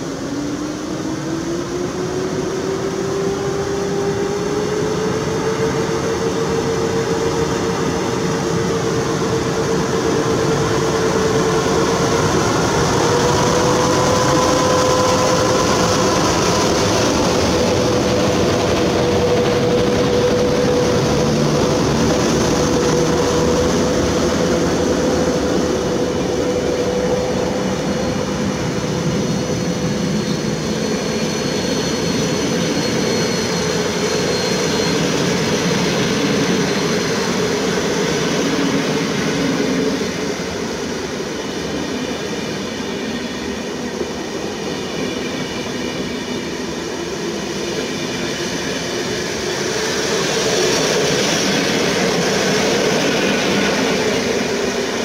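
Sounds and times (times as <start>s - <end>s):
locomotive whine: 0.0s - 55.0s
train wheels rumbling on rail: 0.0s - 55.0s.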